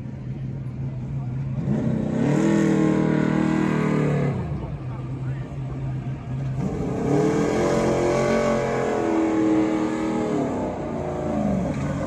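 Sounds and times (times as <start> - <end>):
race truck engines passing: 0.0 - 12.0.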